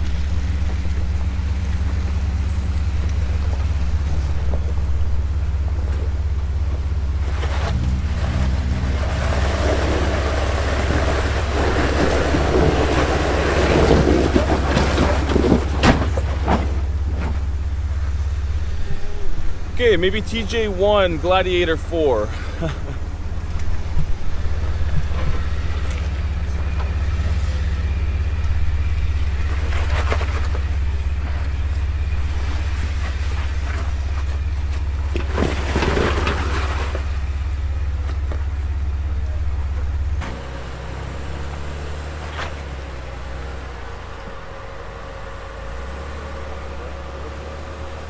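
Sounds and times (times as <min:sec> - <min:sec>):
off-road engines under load: 0:00.0 - 0:48.0.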